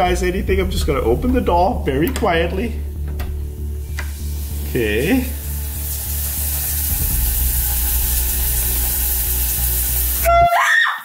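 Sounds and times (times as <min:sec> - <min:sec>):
background music with beat: 0:00.0 - 0:10.4
shower water running: 0:00.8 - 0:11.0.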